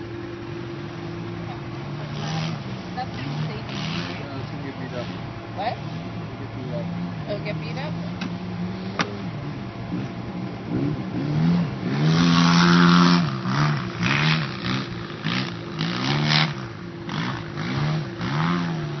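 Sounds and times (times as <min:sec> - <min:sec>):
engine revving up and down: 0:00.9 - 0:19.0.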